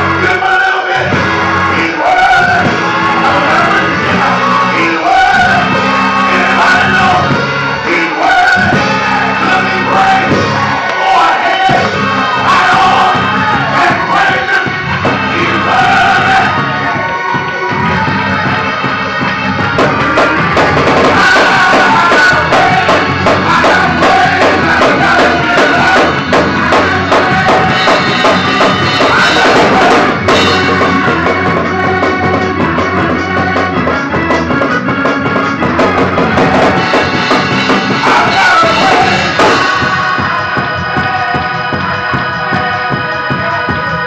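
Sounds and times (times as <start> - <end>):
drum kit playing fast beat: 0.0 - 44.0
sustained organ: 0.0 - 44.0.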